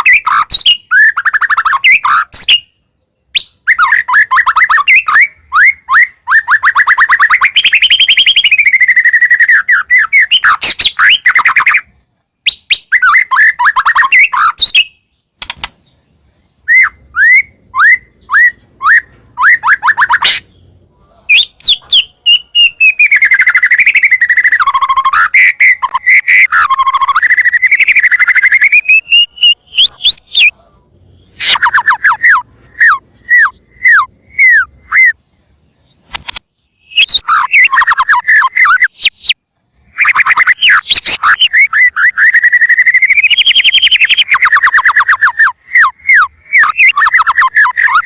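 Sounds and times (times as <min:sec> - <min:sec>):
songbird singing whistled notes: 0:00.0 - 0:48.0.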